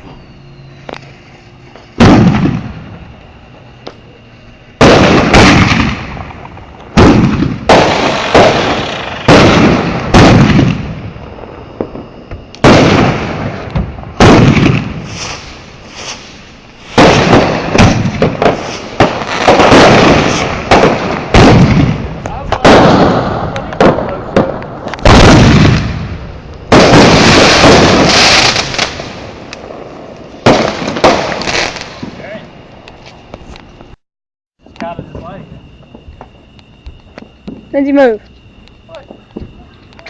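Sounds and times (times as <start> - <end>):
fireworks bangs: 0.0 - 34.0, 34.6 - 40.0.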